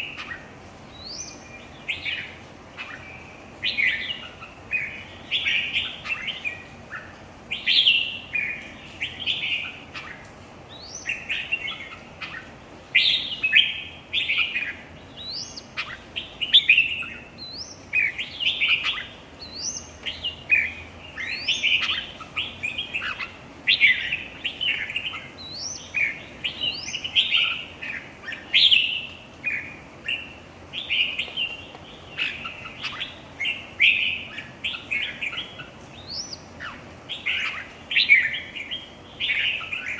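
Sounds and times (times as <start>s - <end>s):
birds singing warbling phrases: 0.0s - 39.9s.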